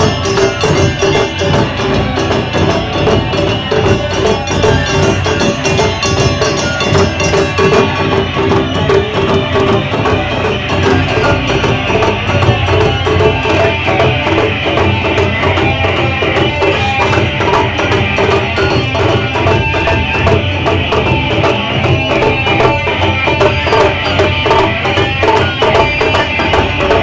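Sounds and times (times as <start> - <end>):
ensemble drumming fast rhythm: 0.0 - 27.0.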